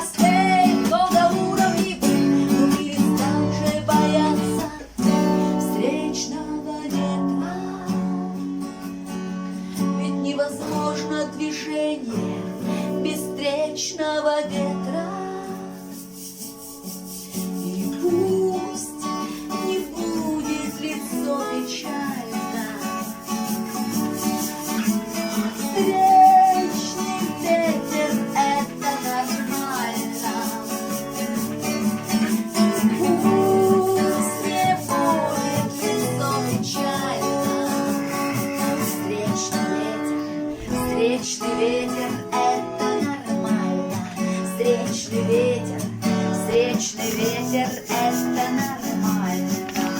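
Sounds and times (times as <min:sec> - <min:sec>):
acoustic guitar playing: 0:00.0 - 0:49.9.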